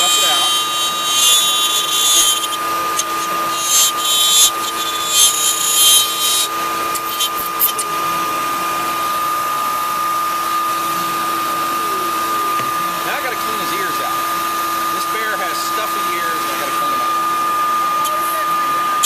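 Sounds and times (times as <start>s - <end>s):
router cutting wood: 0.0s - 19.0s
router whining freely: 0.0s - 19.0s.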